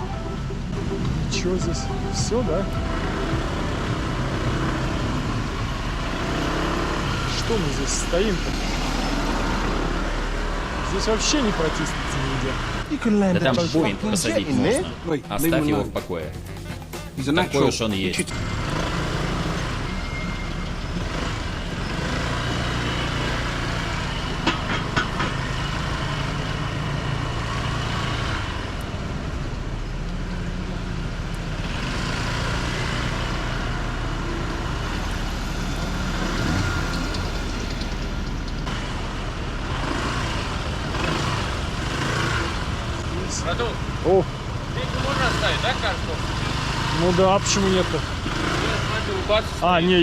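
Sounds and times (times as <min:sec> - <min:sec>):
idling traffic engines hum: 0:00.0 - 0:50.0.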